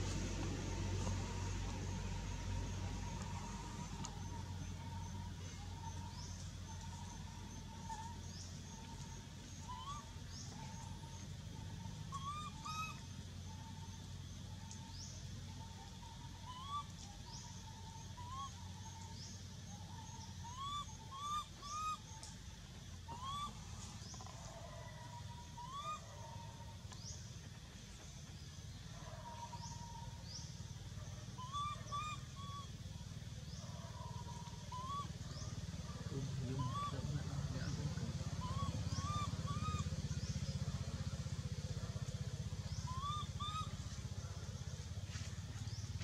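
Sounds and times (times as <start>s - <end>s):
low steady rumble: 0.0s - 46.0s
birds chirping: 0.8s - 46.0s.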